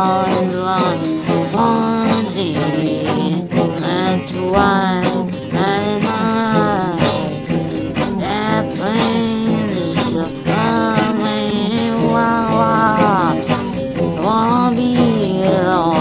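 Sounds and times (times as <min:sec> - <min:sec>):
steady percussion: 0:00.0 - 0:16.0.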